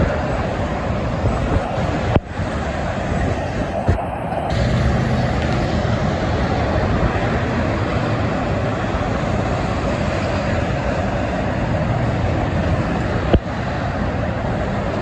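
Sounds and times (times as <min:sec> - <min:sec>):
highway traffic rumble: 0:00.0 - 0:15.0.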